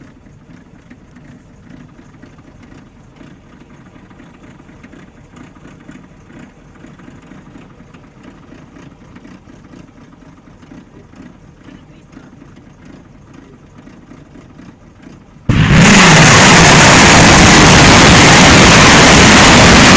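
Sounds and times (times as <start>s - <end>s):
truck engine idling: 0.0s - 19.9s.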